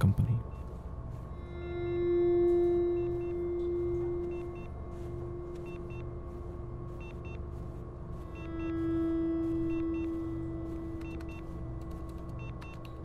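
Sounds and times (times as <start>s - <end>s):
repeating low pulse: 0.0s - 13.0s
held synth tone: 1.4s - 13.0s.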